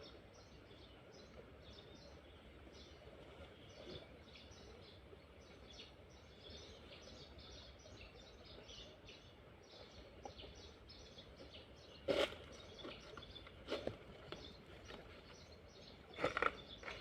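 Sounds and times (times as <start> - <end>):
low background noise: 0.0 - 17.0
small birds chirping: 0.0 - 17.0.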